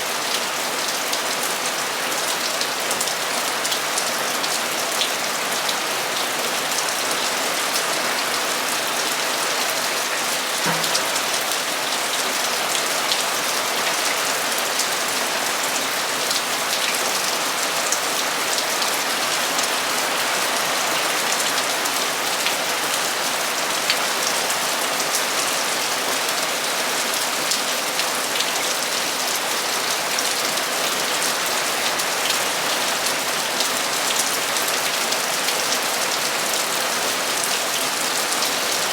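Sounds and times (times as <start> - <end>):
heavy rain on a metal roof: 0.0 - 38.9.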